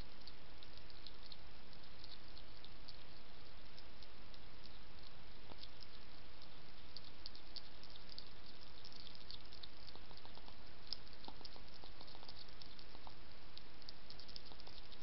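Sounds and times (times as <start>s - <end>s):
hedgehog chewing crunchy food: 0.0s - 15.0s
microphone hiss: 0.0s - 15.0s.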